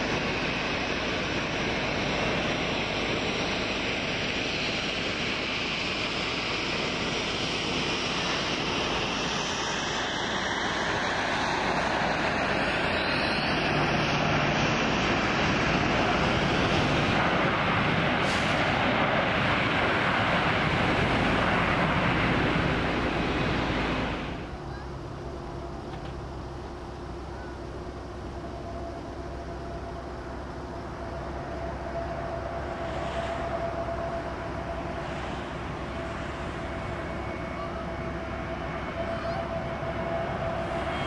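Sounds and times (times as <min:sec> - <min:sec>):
jet engine rush: 0:00.0 - 0:27.4, 0:28.0 - 0:41.0.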